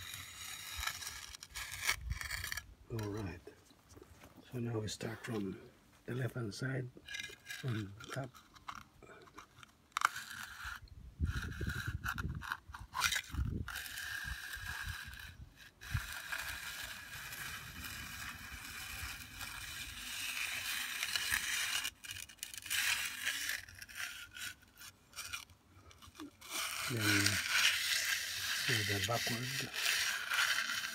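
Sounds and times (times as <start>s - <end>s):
steel edger scraping wet concrete: 0.0s - 3.4s, 7.1s - 8.8s, 10.0s - 30.9s.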